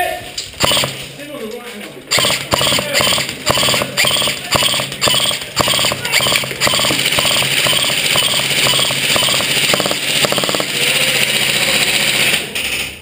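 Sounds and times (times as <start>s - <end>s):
airsoft gun firing bursts: 0.6s - 1.1s, 2.1s - 12.4s.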